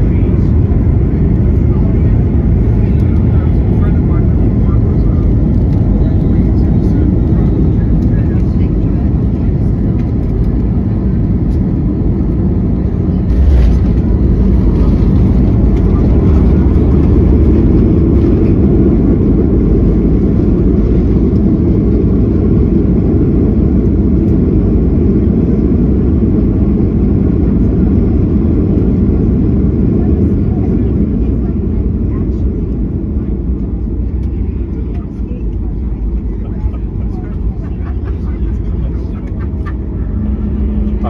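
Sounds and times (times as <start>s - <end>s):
rumble of tyres and engines: 0.0s - 41.0s.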